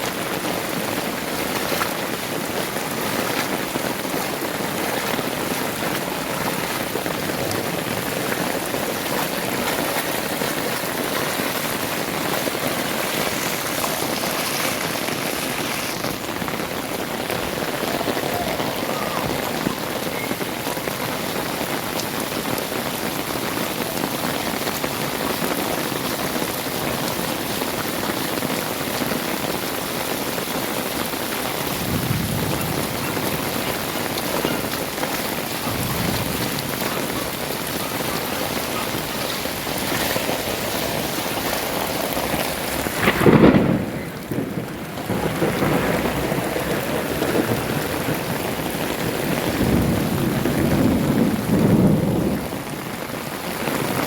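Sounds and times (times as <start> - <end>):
thunder rumbling: 0.0 - 27.8, 31.0 - 54.0
heavy rain pouring: 0.0 - 54.0.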